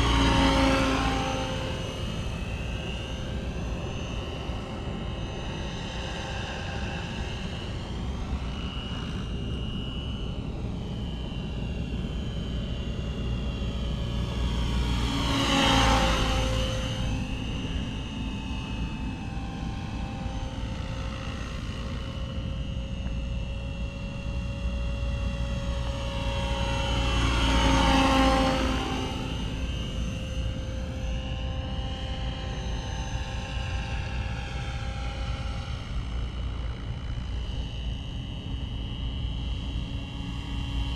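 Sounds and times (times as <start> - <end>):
rc helicopter rotor whine: 0.0 - 40.9.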